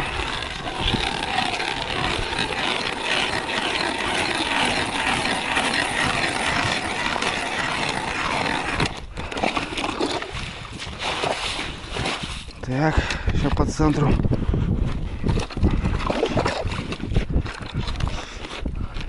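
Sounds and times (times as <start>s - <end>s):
ice auger grinding: 0.0s - 12.7s, 15.2s - 19.0s.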